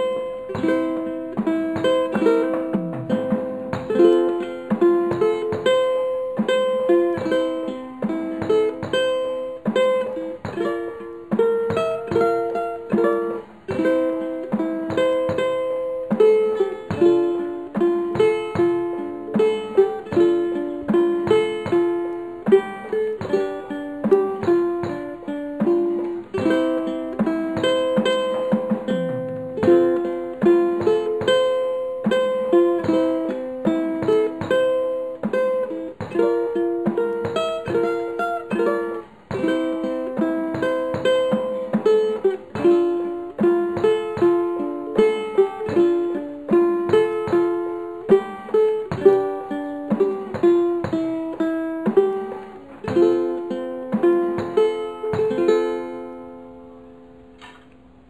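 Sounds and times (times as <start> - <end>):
ukulele playing: 0.0 - 58.0.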